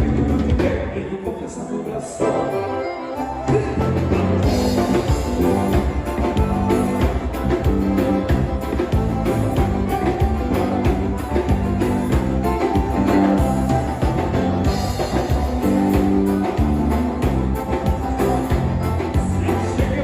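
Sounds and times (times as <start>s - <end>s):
dance band instrumental music: 0.0s - 20.0s.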